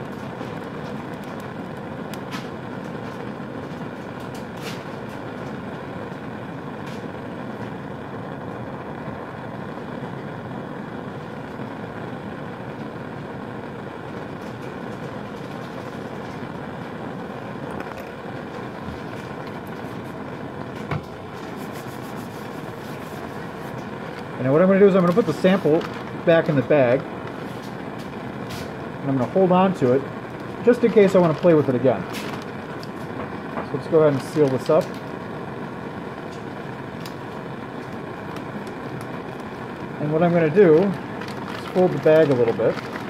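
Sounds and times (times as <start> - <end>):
gas flame rushing: 0.0 - 43.0.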